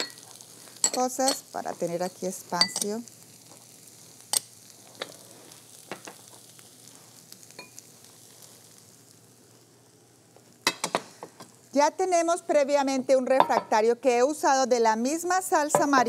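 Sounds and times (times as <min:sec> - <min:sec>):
faint sizzle from a skillet: 0:00.0 - 0:16.0.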